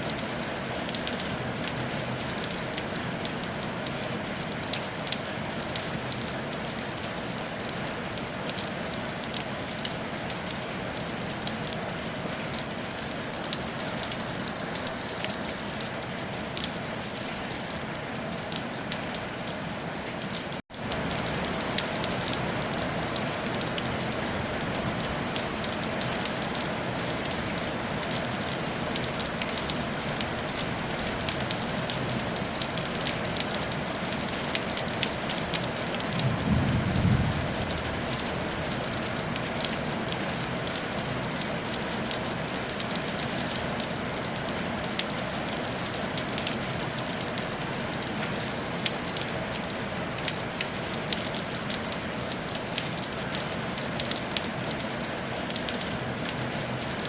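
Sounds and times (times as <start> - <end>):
rain on a tile roof: 0.0 - 57.0.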